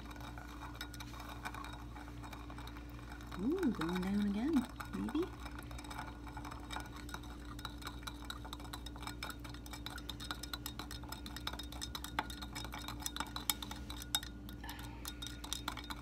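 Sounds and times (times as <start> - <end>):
steady low hum: 0.0 - 16.0
stirrer clinking against container: 0.0 - 16.0.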